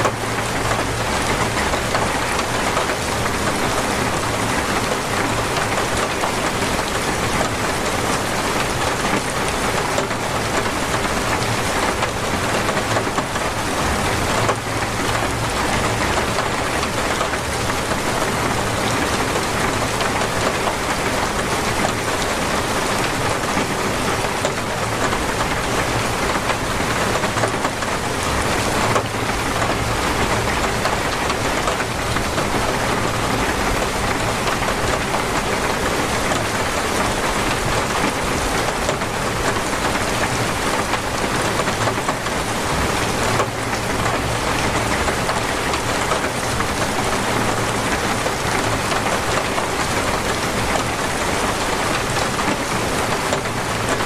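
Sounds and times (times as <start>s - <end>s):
heavy rain drumming on surfaces: 0.0s - 54.0s.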